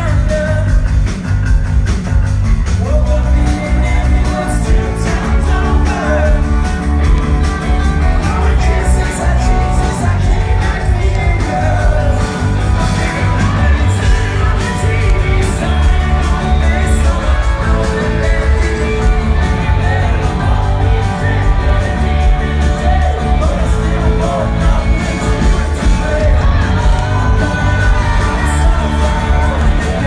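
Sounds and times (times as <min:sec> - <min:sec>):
male lead singer: 0:00.0 - 0:30.0
rock band playing: 0:00.0 - 0:30.0.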